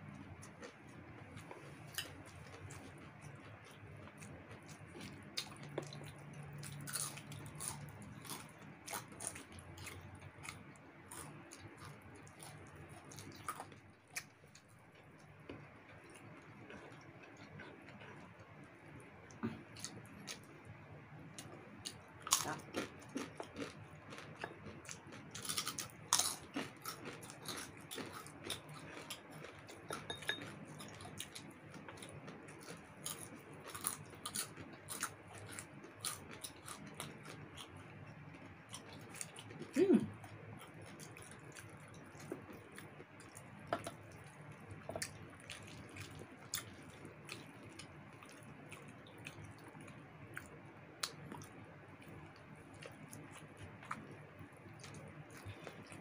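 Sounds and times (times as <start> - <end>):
chewing and crunching: 0.0 - 20.6, 21.3 - 56.0.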